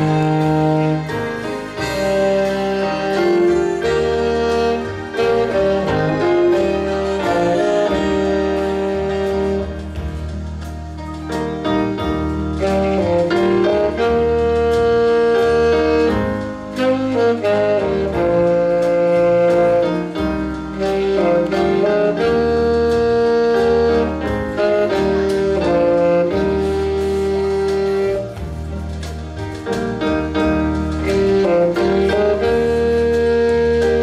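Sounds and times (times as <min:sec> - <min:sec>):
alto saxophone melody: 0:00.0 - 0:34.0
keyboard accompaniment: 0:00.0 - 0:34.0.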